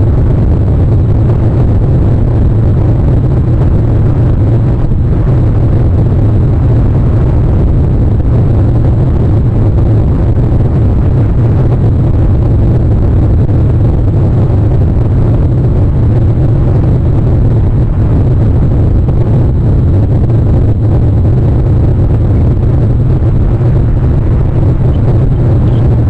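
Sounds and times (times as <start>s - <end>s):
loud low rumbling: 0.0s - 26.0s.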